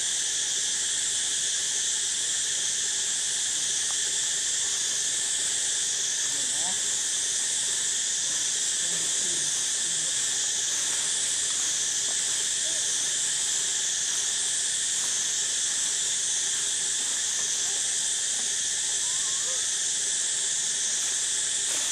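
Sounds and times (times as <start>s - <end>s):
forest insects buzzing drone: 0.0s - 21.9s.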